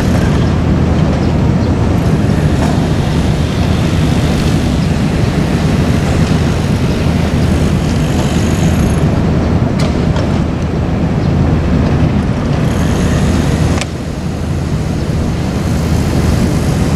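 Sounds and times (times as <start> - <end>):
excavator diesel engine droning: 0.0 - 11.5, 12.3 - 16.9.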